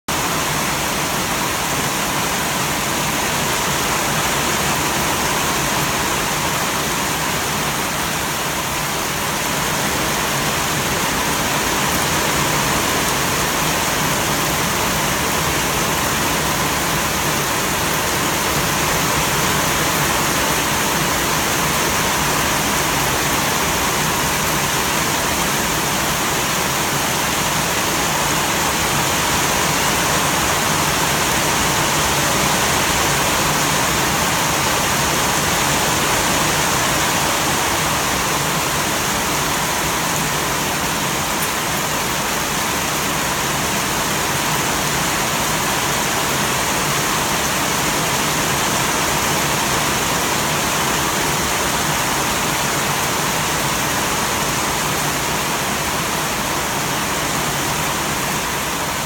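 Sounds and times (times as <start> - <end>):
heavy rain on trees: 0.1 - 59.0.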